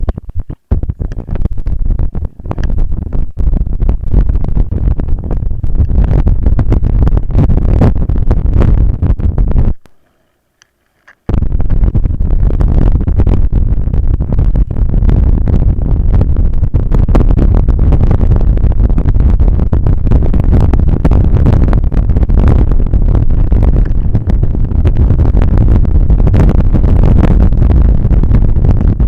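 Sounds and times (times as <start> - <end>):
wind buffeting microphone: 0.0 - 9.9, 11.3 - 29.0.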